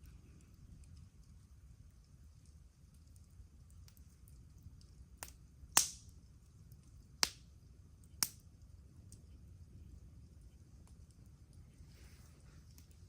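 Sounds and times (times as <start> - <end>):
campfire wood crackling: 0.0 - 13.0.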